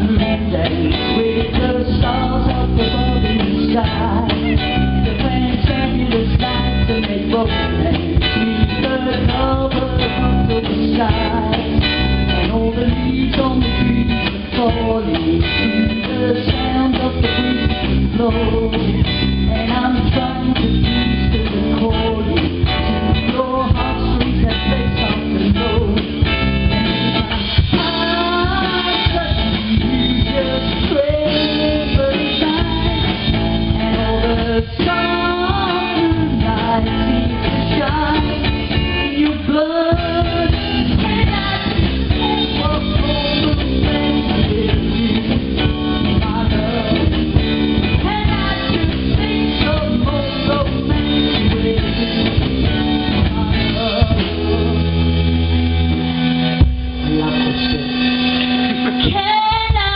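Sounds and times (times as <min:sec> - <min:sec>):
person singing: 0:00.0 - 0:55.1, 0:56.4 - 0:59.9
live band playing: 0:00.0 - 0:59.9.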